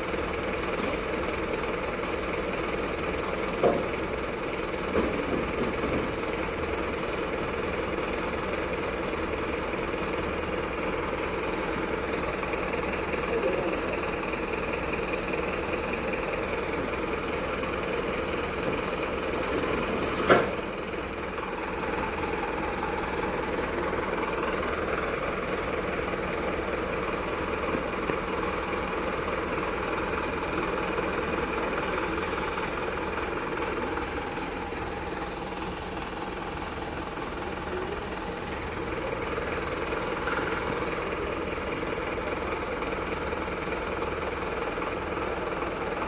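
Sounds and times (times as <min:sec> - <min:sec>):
truck engine running: 0:00.0 - 0:46.0.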